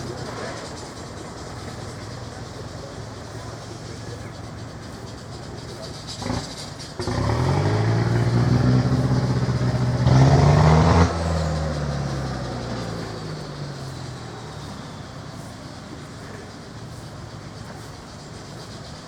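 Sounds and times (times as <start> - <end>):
tractor engine driving past: 0.0 - 19.0.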